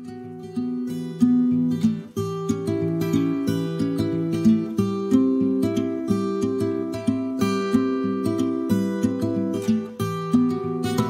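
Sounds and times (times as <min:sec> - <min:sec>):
acoustic guitar plucked notes: 0:00.0 - 0:11.0.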